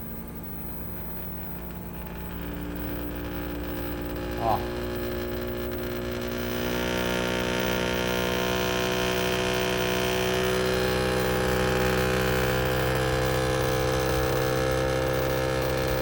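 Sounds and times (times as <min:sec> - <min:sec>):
air conditioner humming vibration: 0:00.0 - 0:16.0.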